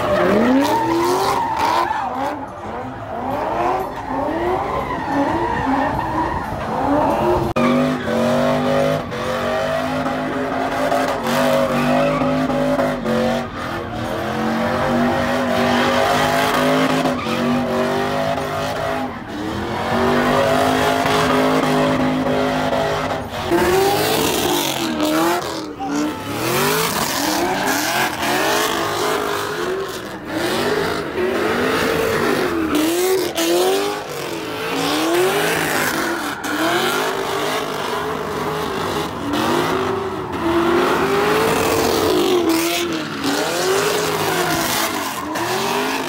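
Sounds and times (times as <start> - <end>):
engines revving: 0.0 - 46.0.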